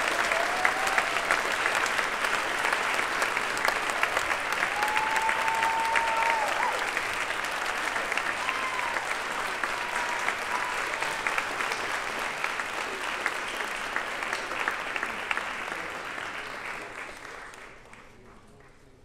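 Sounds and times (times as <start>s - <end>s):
audience applauding: 0.0s - 18.9s.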